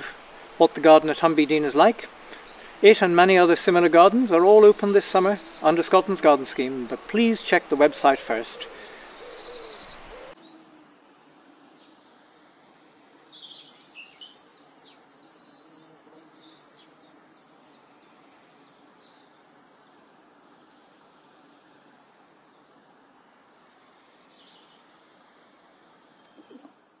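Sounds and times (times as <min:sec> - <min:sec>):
songbird chirps and trills: 0:00.0 - 0:10.9, 0:12.8 - 0:25.3, 0:25.9 - 0:27.0
faint steady hiss: 0:00.0 - 0:27.0.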